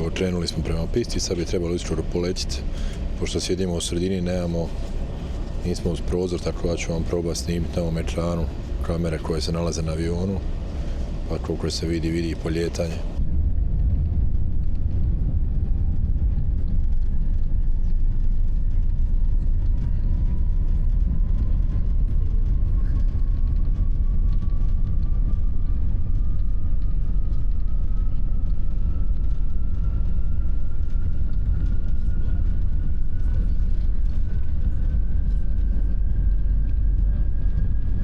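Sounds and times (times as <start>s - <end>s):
jet cabin rumble during takeoff: 0.0s - 38.0s
jet engine whine rising in pitch: 0.0s - 38.0s.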